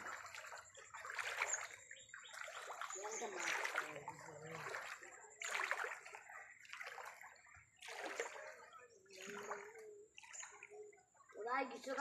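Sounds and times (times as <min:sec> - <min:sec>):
floodwater splashing and sloshing: 0:00.0 - 0:12.0.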